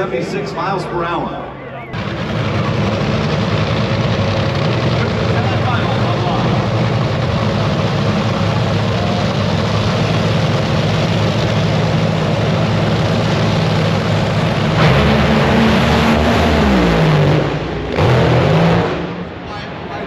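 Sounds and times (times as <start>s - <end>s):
drag racing engines droning: 0.0s - 20.0s
louder engine dropping in pitch: 1.8s - 19.4s.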